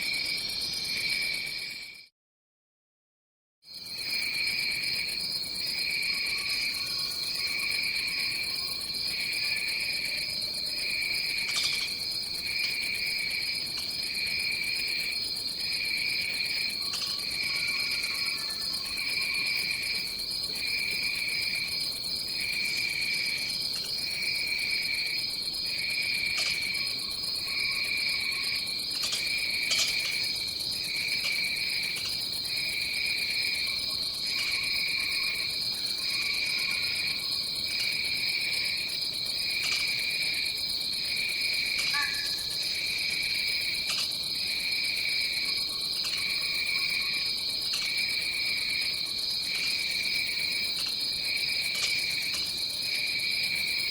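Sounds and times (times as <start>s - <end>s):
insect high steady trill: 3.8s - 53.9s.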